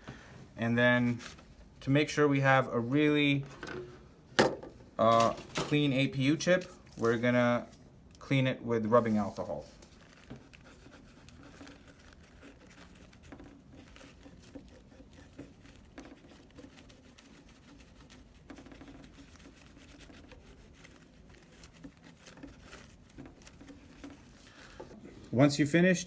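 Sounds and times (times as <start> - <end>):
paper towel rubbing and crinkling: 0.6 - 3.6, 5.0 - 26.0.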